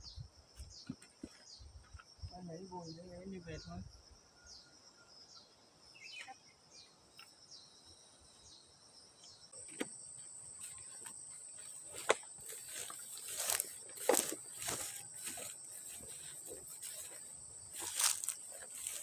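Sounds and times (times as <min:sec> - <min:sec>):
insect chirps: 0:00.0 - 0:19.0
insects trilling: 0:00.0 - 0:19.0.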